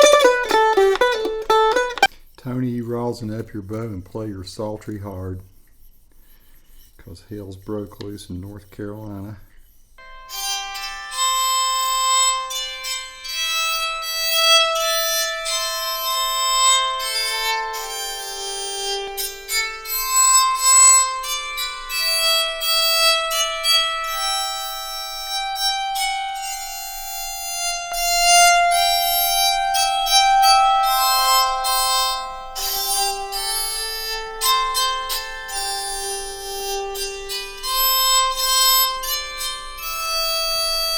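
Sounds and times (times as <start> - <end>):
solo fiddle melody: 0.0 - 2.1, 10.0 - 40.9.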